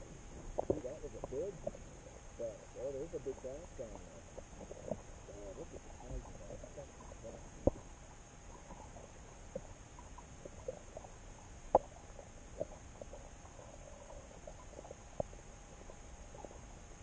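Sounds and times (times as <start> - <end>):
muffled underwater ambience: 0.0 - 17.0.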